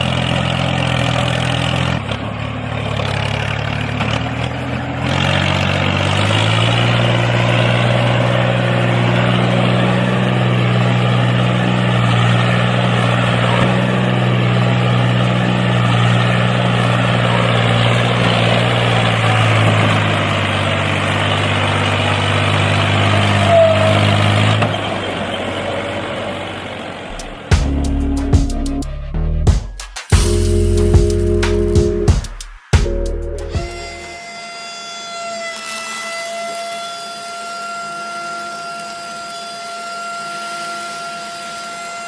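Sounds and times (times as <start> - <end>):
engine humming steadily: 0.0 - 34.2.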